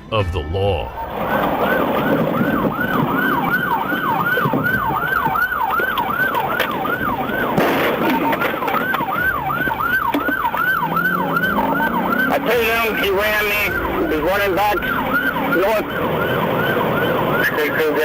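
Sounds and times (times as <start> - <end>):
vehicle rumble: 0.7 - 18.0
police siren yelping: 0.8 - 18.0.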